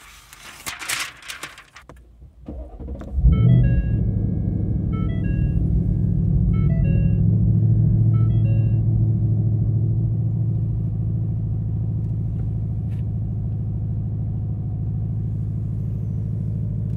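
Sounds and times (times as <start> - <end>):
car engine idling: 1.2 - 16.9.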